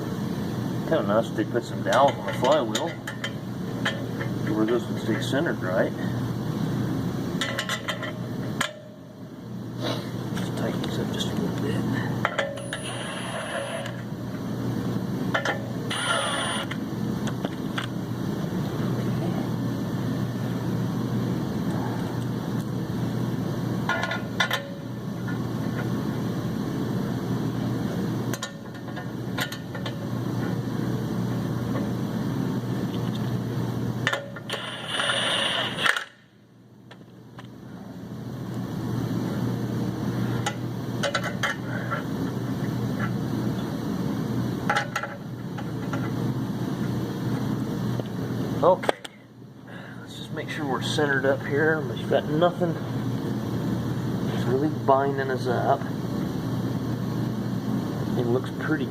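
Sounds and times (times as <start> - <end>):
mechanical hum: 0.0 - 58.9.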